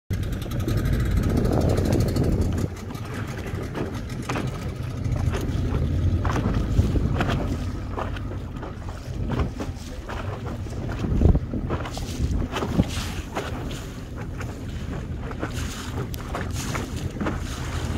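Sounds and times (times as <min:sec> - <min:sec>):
boat engine running: 0:00.1 - 0:17.9
wind on microphone: 0:00.1 - 0:17.9.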